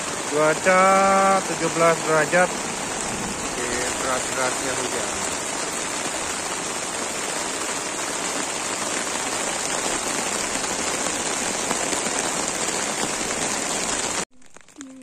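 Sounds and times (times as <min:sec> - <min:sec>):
heavy rain on tent: 0:00.0 - 0:15.0.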